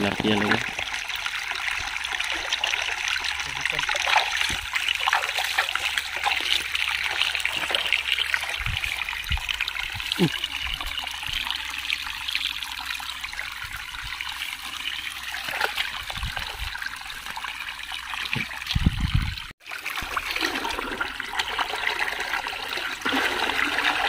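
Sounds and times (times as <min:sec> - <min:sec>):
water trickling in a ditch: 0:00.0 - 0:24.0.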